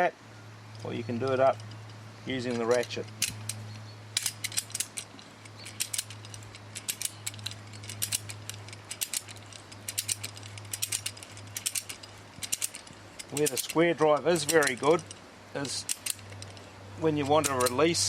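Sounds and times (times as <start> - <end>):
faint steady hum: 0.0 - 18.0
ratchet handle clicking: 1.1 - 18.0.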